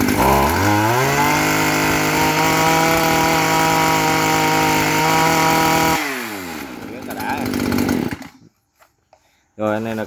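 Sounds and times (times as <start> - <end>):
brush cutter engine at full throttle: 0.0 - 8.5.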